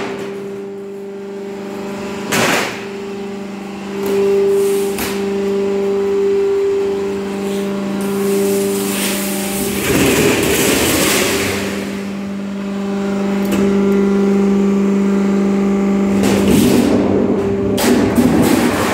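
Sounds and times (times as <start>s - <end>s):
electric motor hum: 0.0s - 18.9s.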